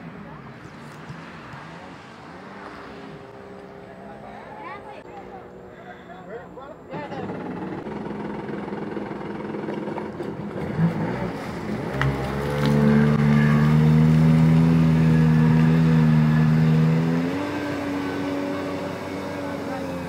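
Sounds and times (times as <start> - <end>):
jet ski engine running: 2.5 - 20.0.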